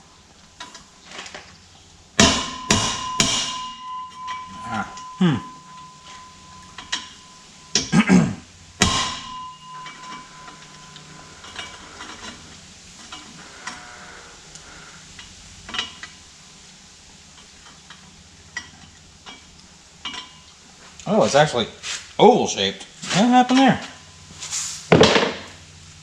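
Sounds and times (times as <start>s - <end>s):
metal exhaust parts clanking: 0.6s - 22.0s.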